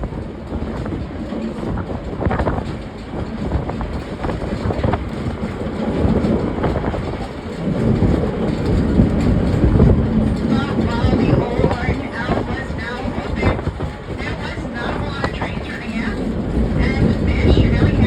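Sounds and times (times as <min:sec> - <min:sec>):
train rumbling on track: 0:00.0 - 0:18.0
wheels clacking on rails: 0:00.0 - 0:18.0.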